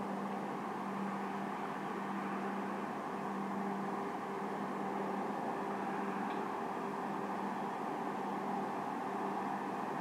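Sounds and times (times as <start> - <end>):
background hiss: 0.0 - 10.0
mechanical hum: 0.0 - 10.0.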